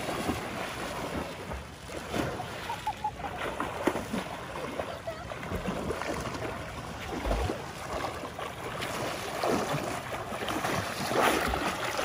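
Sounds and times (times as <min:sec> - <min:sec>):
sea water washing and splashing: 0:00.0 - 0:12.0.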